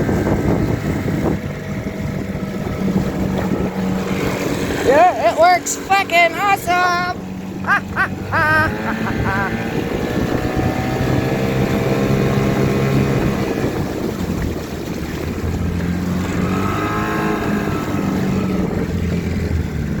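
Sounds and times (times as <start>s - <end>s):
wind noise: 0.0s - 4.9s, 7.4s - 20.0s
outboard motor running: 0.0s - 20.0s
water noise: 0.0s - 20.0s.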